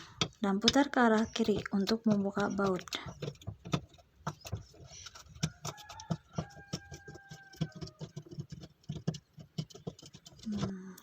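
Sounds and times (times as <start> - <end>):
screwdriver clicks and metal scrapes: 0.0 - 11.0.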